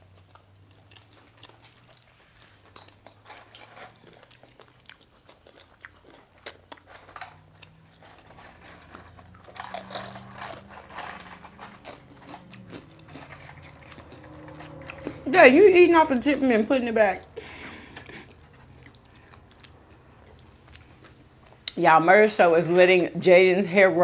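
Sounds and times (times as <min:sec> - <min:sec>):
chips crunching while chewed: 0:00.0 - 0:16.4, 0:17.2 - 0:21.8.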